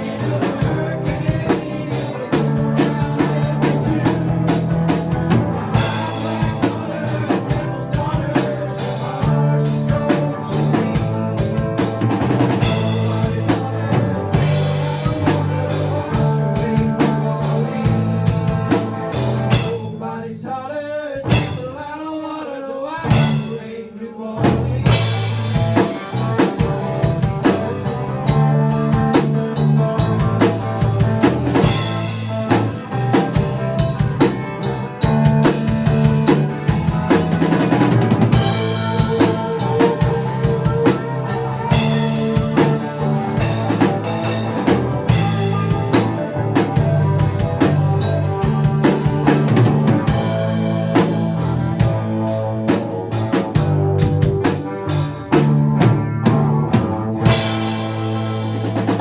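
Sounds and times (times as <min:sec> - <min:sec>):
wavering bending lead guitar line: 0:00.0 - 0:19.7, 0:24.7 - 0:59.0
live rock band playing: 0:00.0 - 0:20.1, 0:21.2 - 0:21.8, 0:23.0 - 0:23.7, 0:24.4 - 0:59.0.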